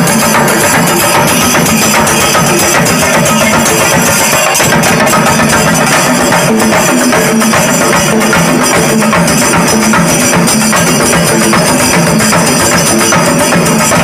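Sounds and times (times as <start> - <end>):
drums beaten with sticks: 0.0 - 14.0.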